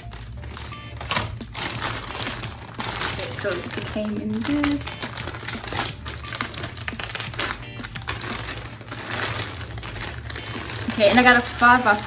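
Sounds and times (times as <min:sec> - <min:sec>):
background music: 0:00.0 - 0:12.0
packaging crinkling: 0:00.0 - 0:12.0.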